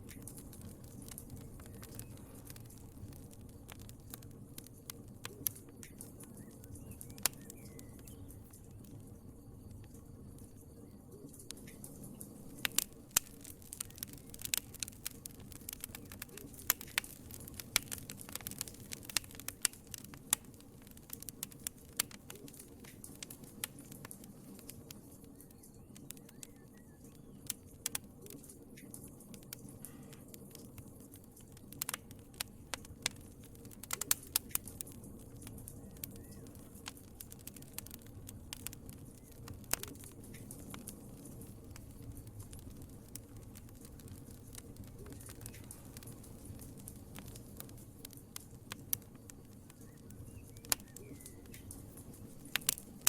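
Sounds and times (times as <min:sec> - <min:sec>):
fire flames rumbling: 0:00.0 - 0:53.0
fire pops and snaps: 0:00.0 - 0:53.0.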